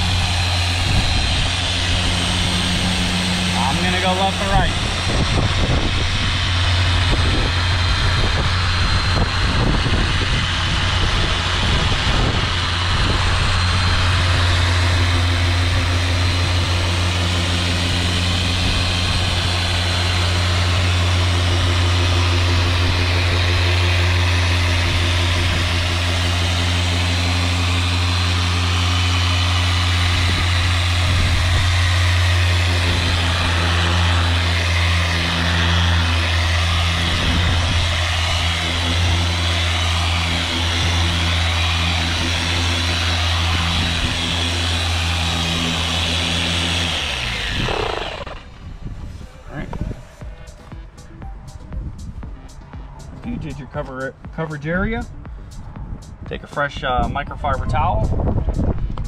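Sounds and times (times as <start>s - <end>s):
electric polisher humming: 0.0s - 51.2s.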